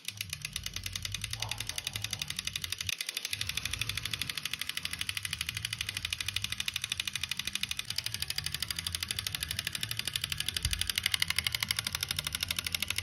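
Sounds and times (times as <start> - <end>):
electric fan motor ticking and humming: 0.0 - 13.0.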